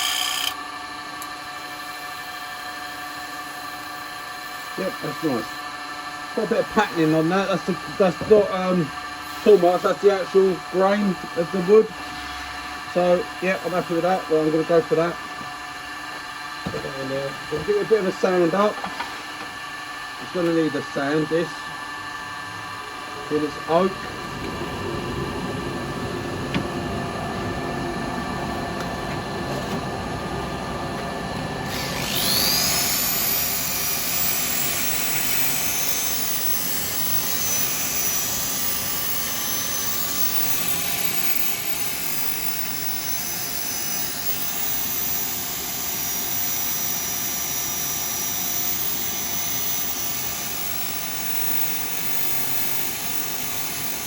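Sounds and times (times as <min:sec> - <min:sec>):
wood lathe running: 0:00.0 - 0:00.7, 0:01.5 - 0:29.2, 0:29.8 - 0:54.0
high-speed motor whine: 0:00.0 - 0:54.0.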